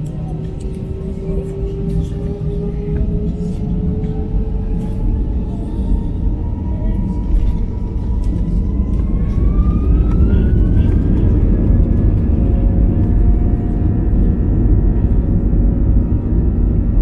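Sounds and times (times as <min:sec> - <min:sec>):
jet engine whine: 0:00.0 - 0:17.0
loud constant rumble: 0:00.0 - 0:17.0.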